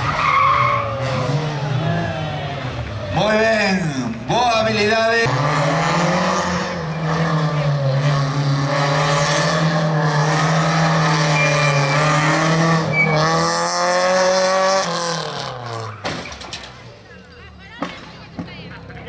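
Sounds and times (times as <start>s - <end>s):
rally car engine revving: 0.0s - 16.9s.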